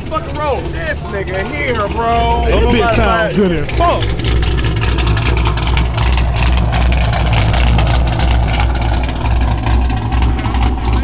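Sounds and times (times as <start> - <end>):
loud car exhaust idling: 0.0 - 11.0.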